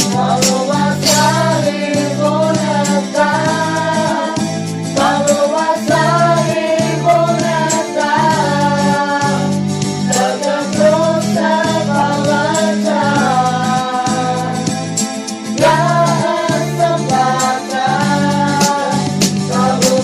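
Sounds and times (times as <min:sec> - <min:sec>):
mixed choir singing in harmony: 0:00.0 - 0:14.7, 0:15.5 - 0:20.0
instrumental backing with bass: 0:00.0 - 0:20.0
light percussion: 0:00.0 - 0:20.0.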